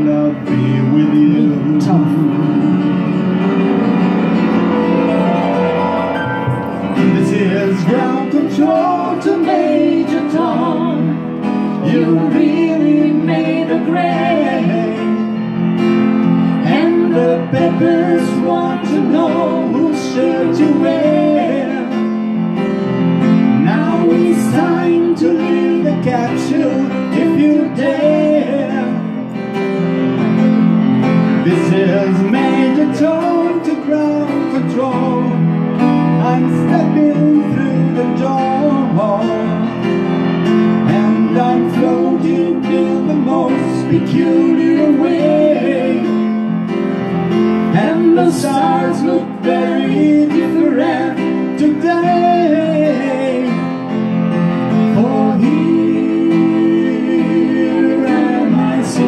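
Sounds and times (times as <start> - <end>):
man singing: 0.0 - 3.8, 6.9 - 15.4, 16.6 - 22.1, 23.5 - 29.2, 31.4 - 39.9, 40.8 - 46.2, 47.7 - 54.0, 54.7 - 59.0
sustained instrumental chords: 0.0 - 59.0.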